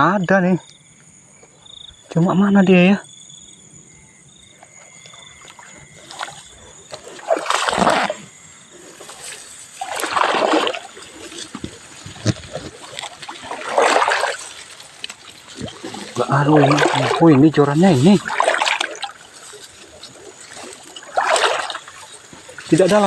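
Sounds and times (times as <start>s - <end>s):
wading through shallow water: 3.4s - 23.0s.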